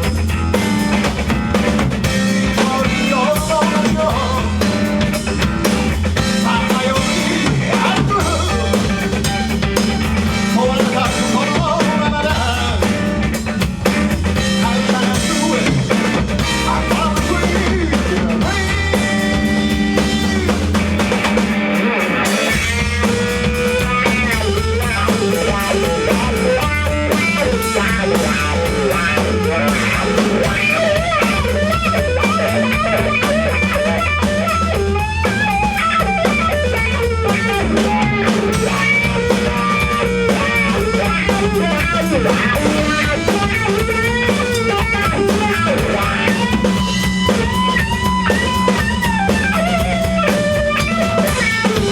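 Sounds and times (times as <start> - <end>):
drum kit: 0.0 - 51.9
guitar: 0.0 - 51.9.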